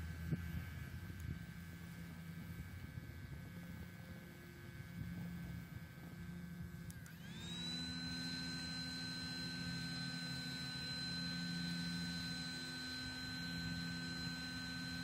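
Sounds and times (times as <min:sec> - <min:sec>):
blower fan whining: 0:00.0 - 0:15.0.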